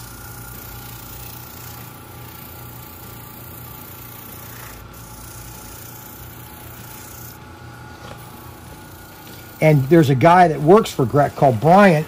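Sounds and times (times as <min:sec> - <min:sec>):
airbrush hissing: 0:00.0 - 0:12.0
compressor hum: 0:00.0 - 0:12.0.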